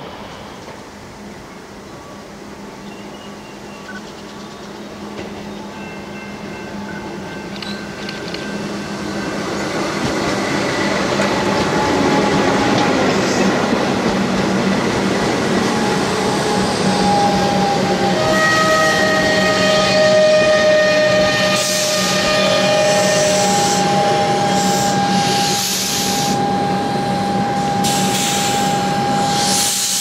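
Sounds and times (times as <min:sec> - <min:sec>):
train hum: 0:00.0 - 0:30.0
train wheels rumbling on rails: 0:00.0 - 0:30.0.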